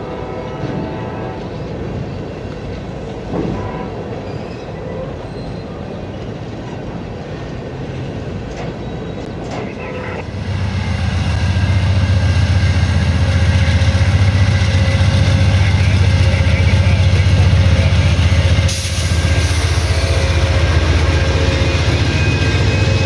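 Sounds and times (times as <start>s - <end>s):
diesel locomotive passing: 0.0s - 23.0s.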